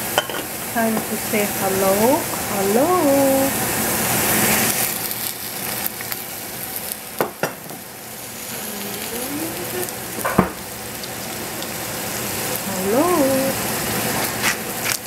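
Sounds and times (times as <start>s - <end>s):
zucchini sizzling in oil: 0.0s - 15.0s.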